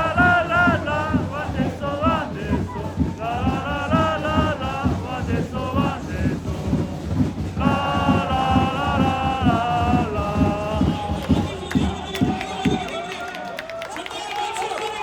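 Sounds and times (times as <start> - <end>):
crowd singing a chant: 0.0 - 12.9
steady drum beat: 0.0 - 13.4.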